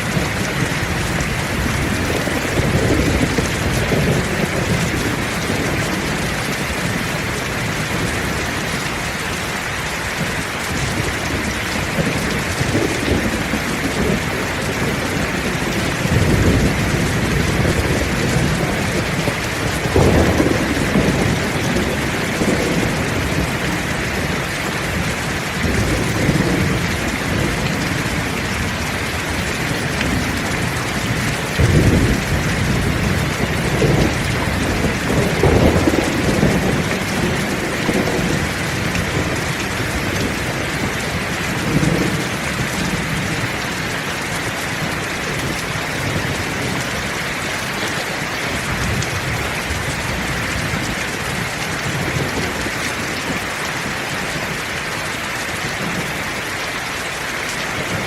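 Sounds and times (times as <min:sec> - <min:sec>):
thunder rumbling: 0:00.0 - 0:54.7
heavy rain falling: 0:00.0 - 0:58.0.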